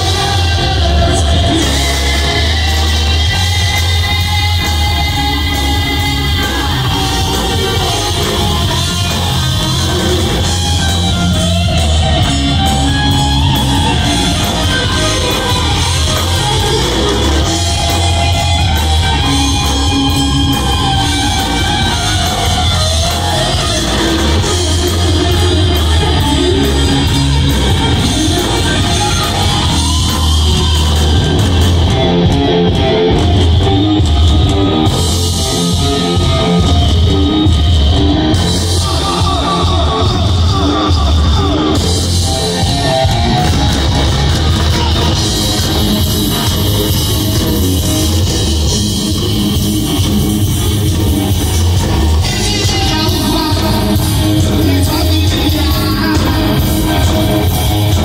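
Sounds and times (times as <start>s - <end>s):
distorted electric guitar: 0.0s - 58.0s
drums and bass: 0.0s - 58.0s.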